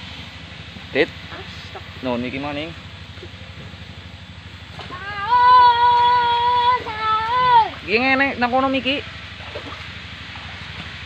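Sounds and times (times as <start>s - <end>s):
muddy water splashing: 0.0s - 11.0s
steady low hum: 0.0s - 11.0s.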